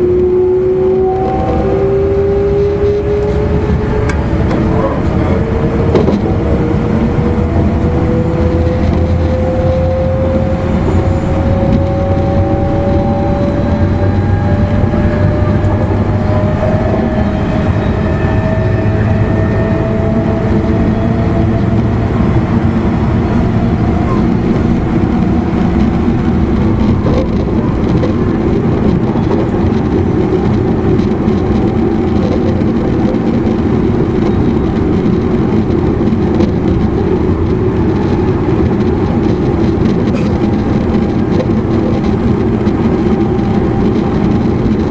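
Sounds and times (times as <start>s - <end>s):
electric train motors whining: 0.0s - 35.0s, 36.8s - 44.9s
train wheels rumbling on rail: 0.0s - 44.9s.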